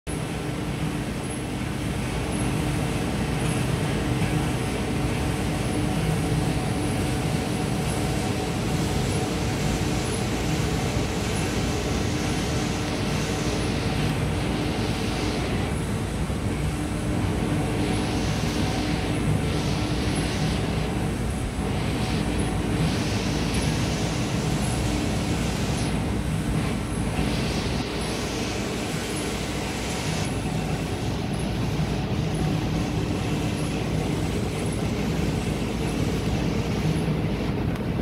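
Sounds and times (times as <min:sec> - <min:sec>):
constant rushing noise: 0:00.1 - 0:38.0
machine hum: 0:00.1 - 0:38.0.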